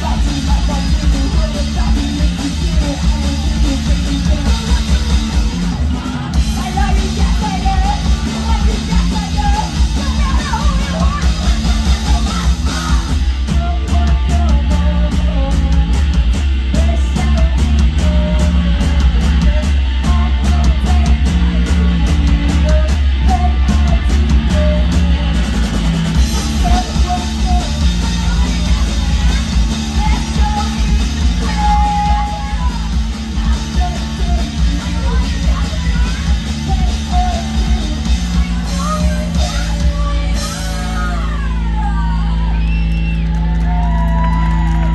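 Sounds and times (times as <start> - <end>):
bass guitar: 0.0 - 44.9
distorted electric guitars: 0.0 - 44.9
drums: 0.0 - 44.9
singer's vocals: 0.0 - 44.9.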